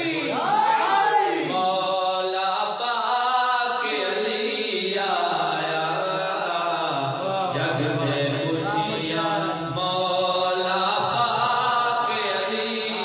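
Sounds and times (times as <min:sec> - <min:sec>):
man chanting: 0:00.0 - 0:00.5, 0:01.2 - 0:13.0.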